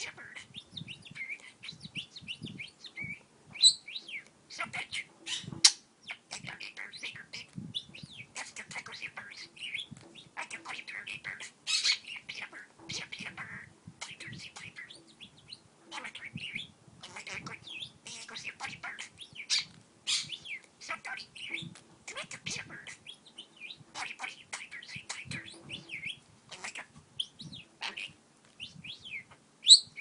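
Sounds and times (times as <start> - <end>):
budgerigar chattering and warbling: 0.0 - 30.0.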